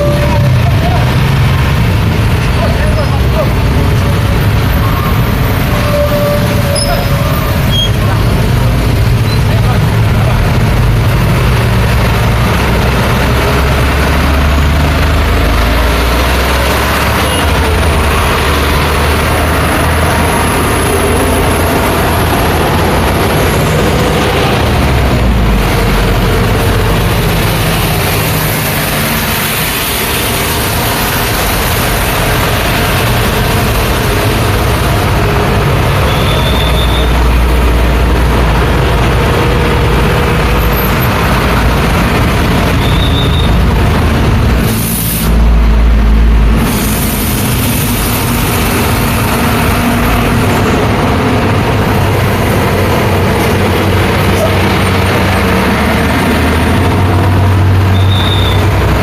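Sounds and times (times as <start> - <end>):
heavy trucks passing: 0.0 - 59.0
vehicle engines passing: 0.0 - 59.0.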